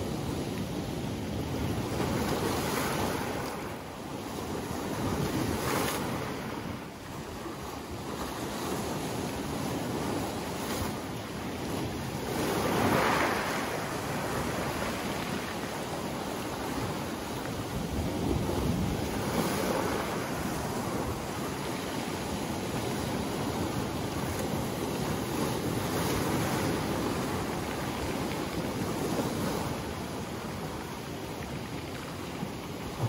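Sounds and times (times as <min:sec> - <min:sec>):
waves breaking on pebble shore: 0:00.1 - 0:33.0.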